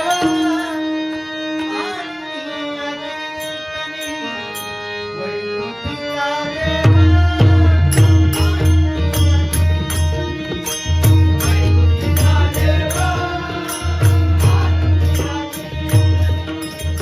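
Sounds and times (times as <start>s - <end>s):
harmonium holding notes: 0.0s - 17.0s.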